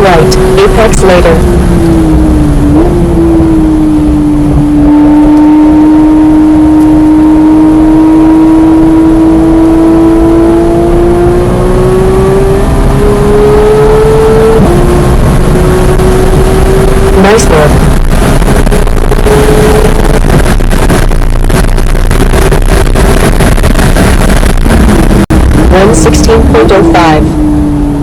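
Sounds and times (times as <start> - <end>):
car engine accelerating hard: 0.0 - 28.0
road and wind noise: 0.0 - 28.0.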